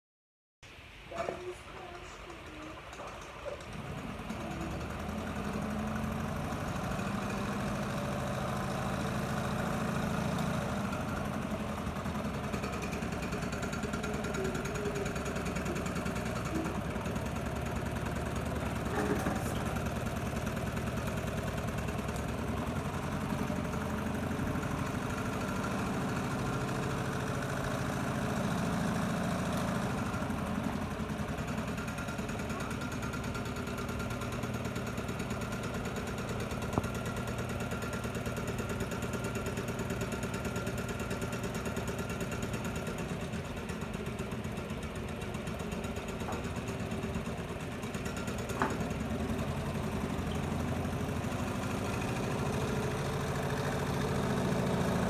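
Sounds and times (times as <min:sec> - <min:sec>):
small engine mechanical rattle: 0:01.1 - 0:55.0.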